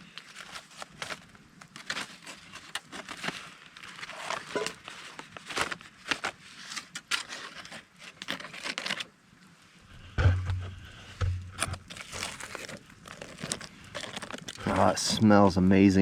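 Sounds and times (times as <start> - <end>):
aluminium foil crinkling: 0.0 - 9.2, 10.9 - 15.3.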